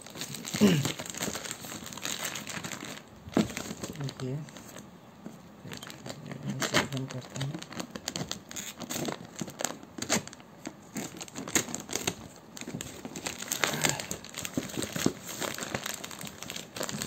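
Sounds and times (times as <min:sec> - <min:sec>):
plastic mailer bag crinkling and tearing: 0:00.0 - 0:04.8, 0:05.7 - 0:17.0.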